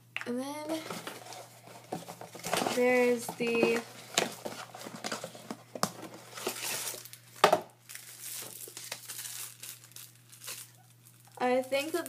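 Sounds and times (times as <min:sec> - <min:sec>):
packaging rustling and crinkling: 0:00.7 - 0:12.0.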